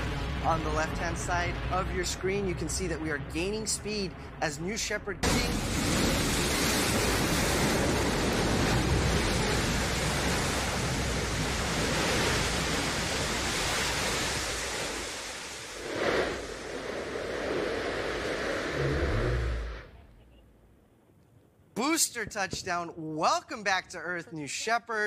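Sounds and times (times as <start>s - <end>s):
rocket engine roar: 0.0s - 20.1s.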